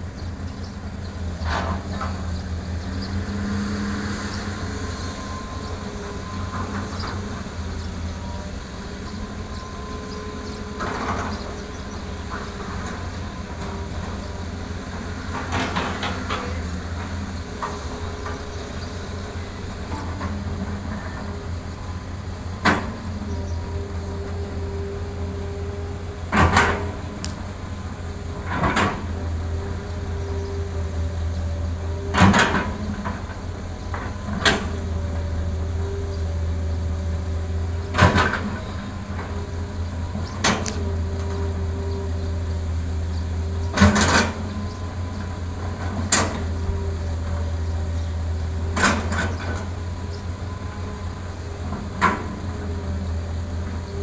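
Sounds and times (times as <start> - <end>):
excavator diesel engine under load: 0.0 - 54.0.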